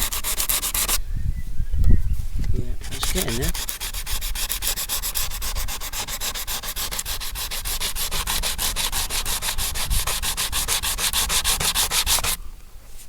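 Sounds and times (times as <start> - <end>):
sandpaper rasping on metal: 0.0 - 1.0, 2.8 - 12.4.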